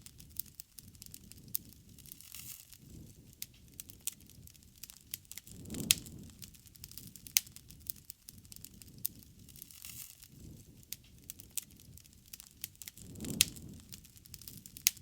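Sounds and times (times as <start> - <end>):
bonfire crackling and popping: 0.0 - 15.0
low rumble of flame: 0.0 - 15.0.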